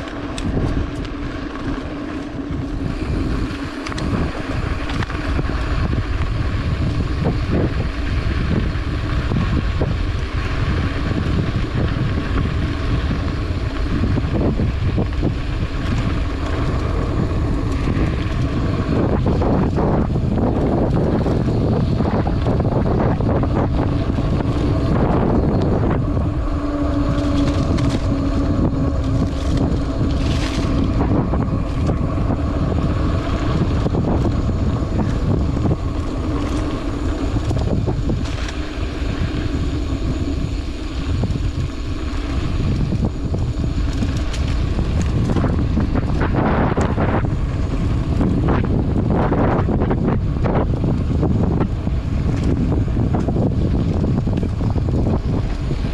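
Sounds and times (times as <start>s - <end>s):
buzzing hum: 0.0s - 55.9s
tyres rolling over dirt trail: 0.0s - 55.9s
wind buffeting microphone: 0.0s - 55.9s.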